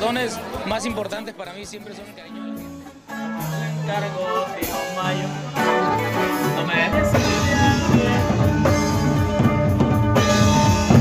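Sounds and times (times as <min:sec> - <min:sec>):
band with heavy bass: 0:01.7 - 0:11.0.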